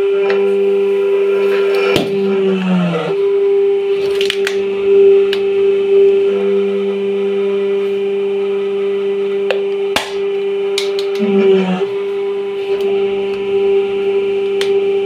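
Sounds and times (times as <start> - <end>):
hydraulic press humming: 0.0 - 15.0.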